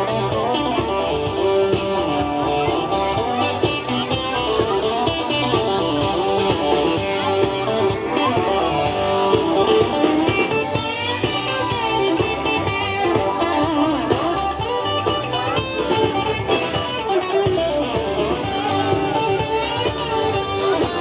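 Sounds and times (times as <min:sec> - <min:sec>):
live band with loud guitar: 0:00.0 - 0:21.0.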